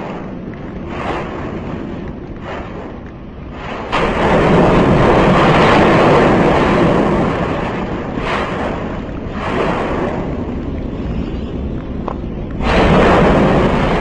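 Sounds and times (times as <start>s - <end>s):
volcanic vent roaring: 0.0s - 14.0s.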